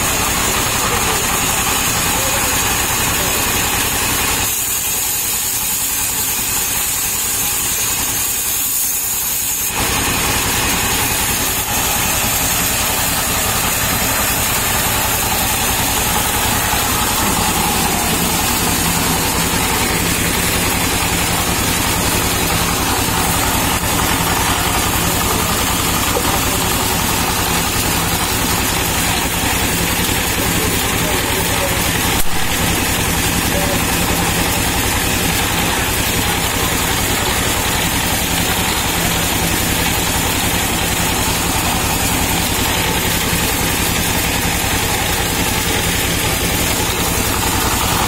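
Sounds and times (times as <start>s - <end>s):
band saw cutting wood: 0.0s - 48.0s
diesel engine running: 0.0s - 48.0s.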